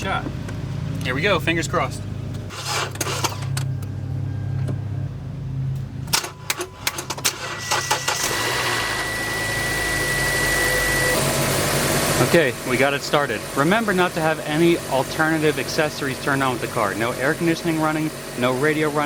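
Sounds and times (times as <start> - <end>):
car engine starting and running: 0.0 - 19.0.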